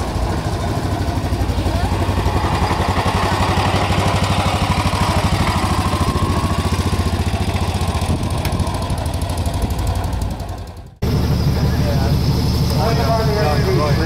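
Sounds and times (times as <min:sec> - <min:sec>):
small car engine pulling away: 0:00.0 - 0:14.0.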